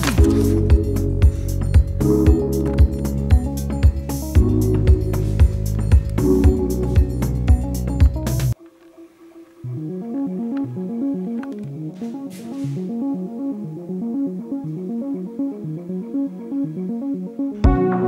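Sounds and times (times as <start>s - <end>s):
repeating arpeggio music: 0.0s - 8.6s, 9.6s - 18.0s.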